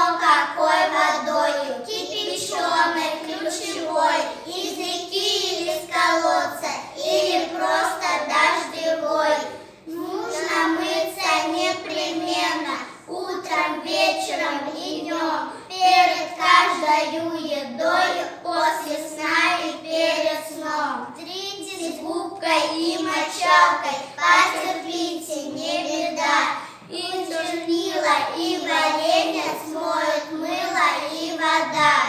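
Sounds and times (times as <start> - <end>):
child singing: 0.0 - 32.0.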